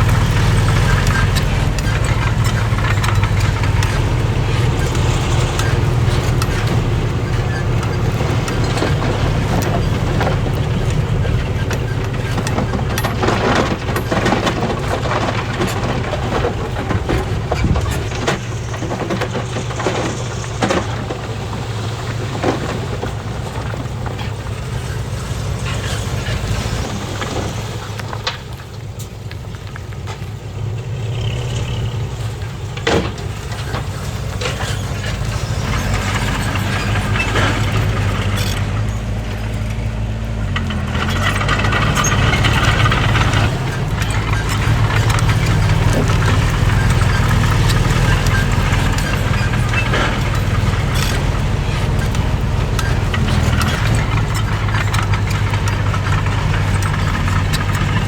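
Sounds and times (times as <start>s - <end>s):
metal clanks and knocks: 0.0s - 30.4s, 31.6s - 58.0s
heavy diesel machinery running: 0.0s - 58.0s.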